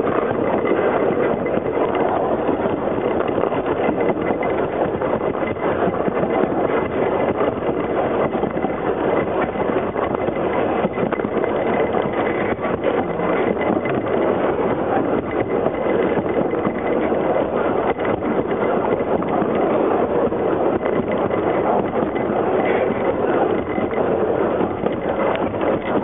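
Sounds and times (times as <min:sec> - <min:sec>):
train wheels rumbling on rail: 0:00.0 - 0:26.0
wind on microphone: 0:00.0 - 0:26.0.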